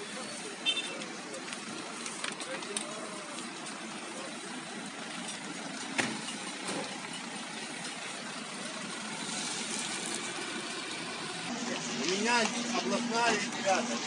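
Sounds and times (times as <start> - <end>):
vehicle engines idling: 0.0 - 14.0.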